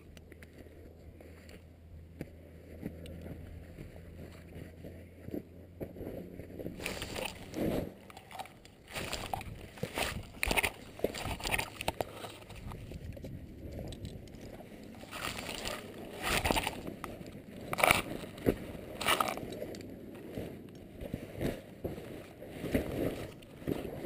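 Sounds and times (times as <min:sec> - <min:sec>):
fabric rustling against camera: 0:02.4 - 0:24.0
wind rushing past camera: 0:02.8 - 0:24.0.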